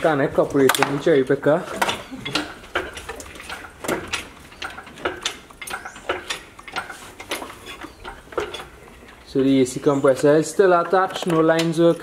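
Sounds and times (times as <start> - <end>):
engine hoist metallic clanks: 0.0 - 12.0.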